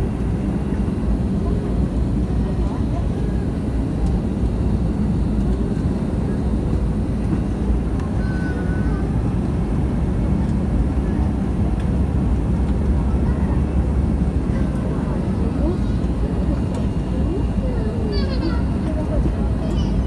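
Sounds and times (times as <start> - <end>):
airliner engines rumbling: 0.0 - 20.0.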